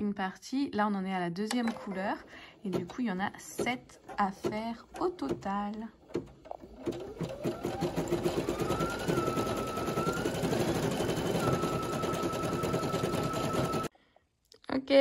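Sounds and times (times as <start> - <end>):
embroidery machine needle clatter: 1.6 - 13.9.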